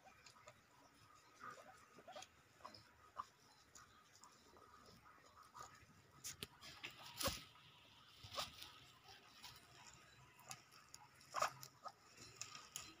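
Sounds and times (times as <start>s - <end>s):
guinea pigs munching grass: 0.0s - 13.0s.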